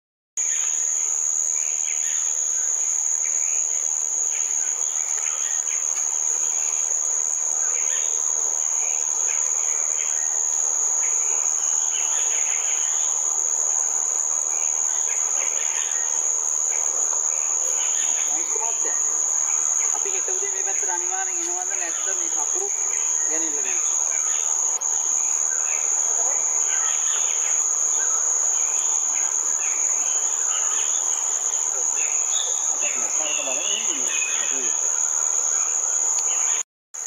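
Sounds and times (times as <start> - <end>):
faint insect chirps: 0.4 - 37.0
insects droning: 0.4 - 37.0.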